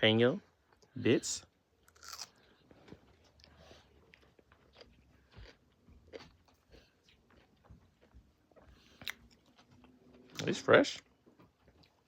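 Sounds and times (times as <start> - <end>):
person chewing food: 1.8 - 12.0.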